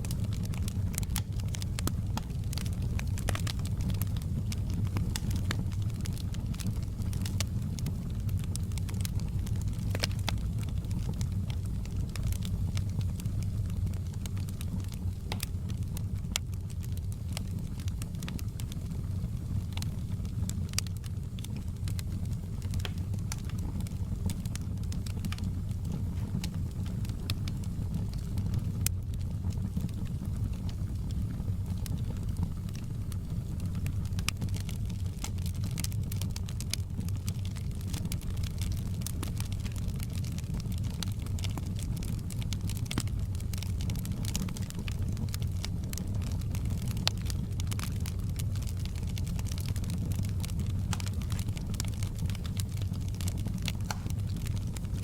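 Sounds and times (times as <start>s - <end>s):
fire crackles and pops: 0.0s - 55.0s
wood fire roaring: 0.0s - 55.0s.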